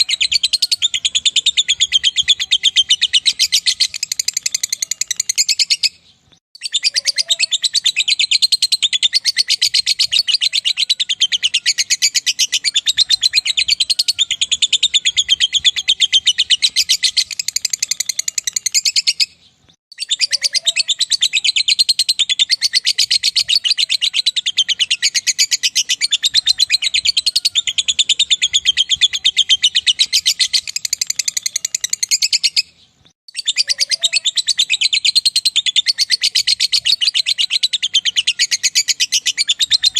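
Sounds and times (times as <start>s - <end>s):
lovebird shrill chatter: 6.6s - 19.3s, 19.9s - 39.9s.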